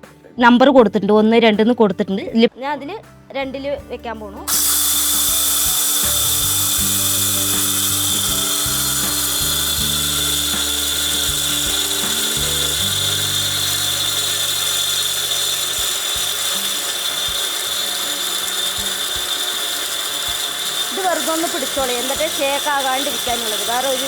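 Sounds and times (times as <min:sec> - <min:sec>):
electric grinder whining: 0:04.5 - 0:24.0
lentils rumbling in grinder: 0:04.5 - 0:24.0.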